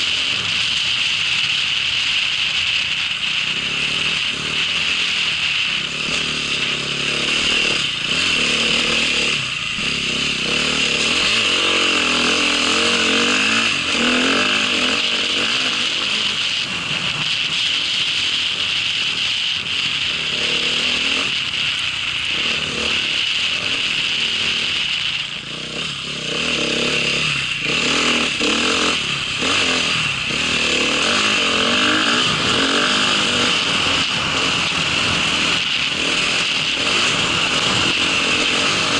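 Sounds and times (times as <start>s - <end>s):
small vehicle engine running: 0.0s - 38.9s
steady hiss: 0.0s - 38.9s.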